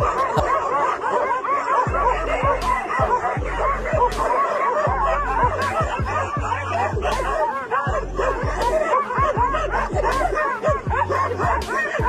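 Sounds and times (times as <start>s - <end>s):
music with deep bass beat: 0.0s - 0.7s, 1.9s - 12.0s
dogs barking and yelping: 0.0s - 12.0s.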